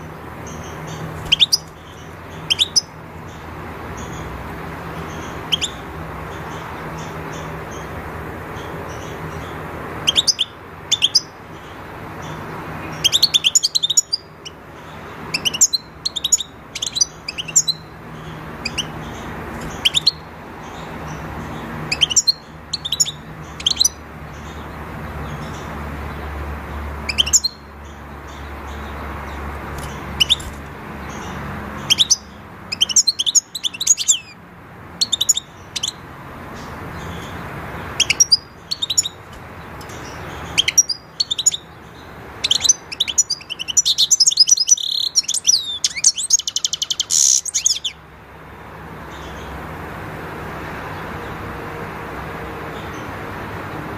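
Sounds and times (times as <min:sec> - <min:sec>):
bird twittering high chirps: 0:00.0 - 0:48.0.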